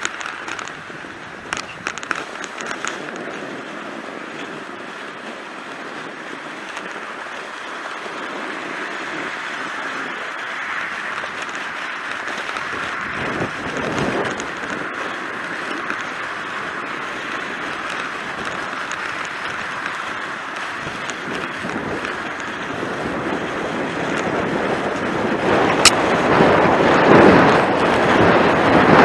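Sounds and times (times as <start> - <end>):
vehicle noise: 0.0 - 29.0
wind on microphone: 0.0 - 29.0.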